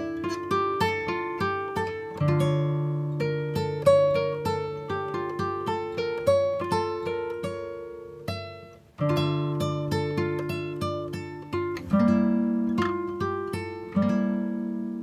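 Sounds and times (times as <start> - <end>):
plucked acoustic guitar melody: 0.0 - 15.0.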